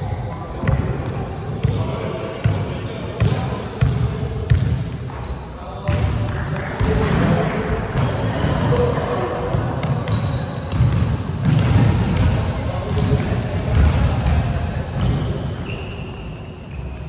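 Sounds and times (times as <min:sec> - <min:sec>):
sneakers squeaking: 0:00.0 - 0:07.2, 0:09.5 - 0:17.0.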